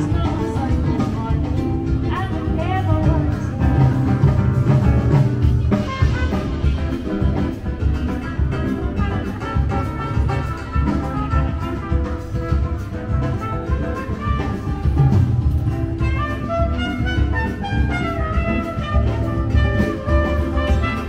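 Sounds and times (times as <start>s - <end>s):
music with bass and drums: 0.0s - 21.0s.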